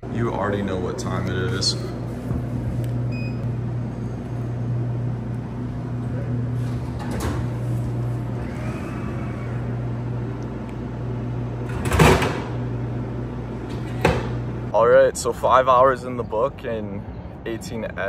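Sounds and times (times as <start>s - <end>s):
vending machine humming: 0.0s - 17.4s.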